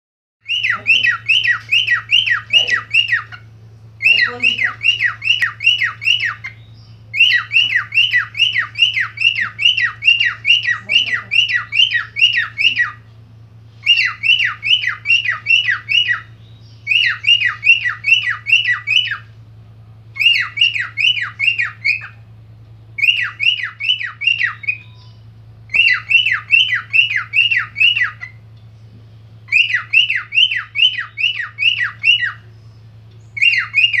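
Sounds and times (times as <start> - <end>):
cockatiel whistling alarm notes: 0.4 - 13.0, 13.8 - 19.3, 20.2 - 22.2, 23.0 - 28.4, 29.5 - 32.5, 33.4 - 34.0.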